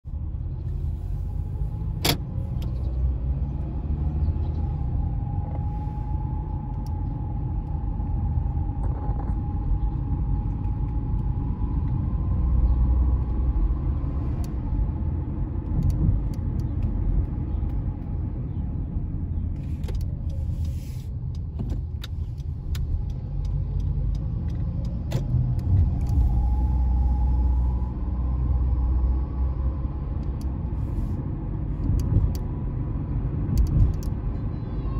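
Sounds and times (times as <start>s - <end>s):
car engine and tyre rumble: 0.0s - 34.9s.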